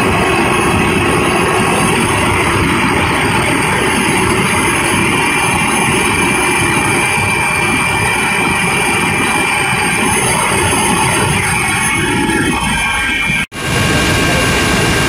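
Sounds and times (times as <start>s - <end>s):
helicopter engine and rotor noise: 0.0s - 15.0s
high whine: 0.0s - 15.0s.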